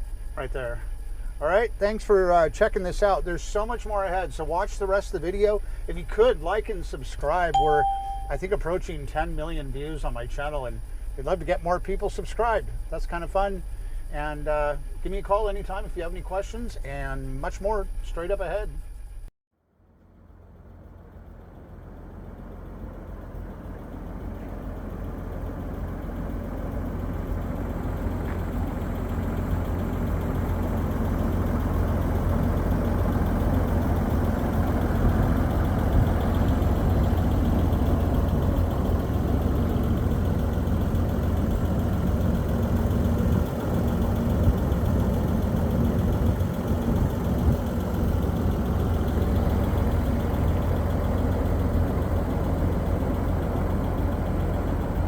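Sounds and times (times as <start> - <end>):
engine deep rumble: 0.0 - 17.3, 18.5 - 55.0.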